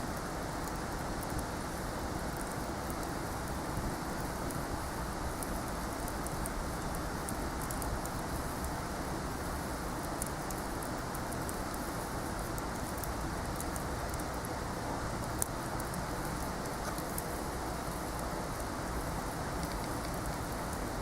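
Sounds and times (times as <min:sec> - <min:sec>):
fire crackling and popping: 0:00.1 - 0:21.0.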